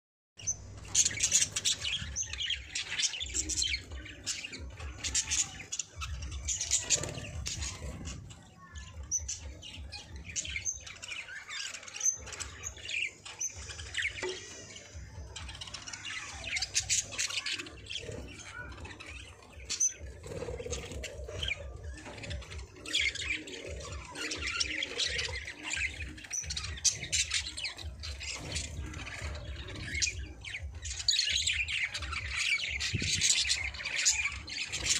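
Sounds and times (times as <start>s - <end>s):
budgerigars chirping and warbling: 0.4s - 34.9s.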